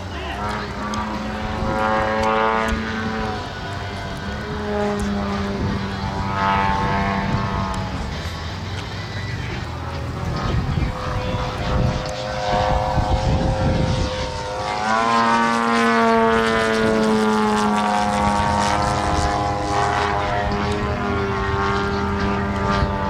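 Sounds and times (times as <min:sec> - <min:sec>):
model airplane engine flying by: 0:00.0 - 0:23.0
wind rumble on microphone: 0:00.0 - 0:23.0.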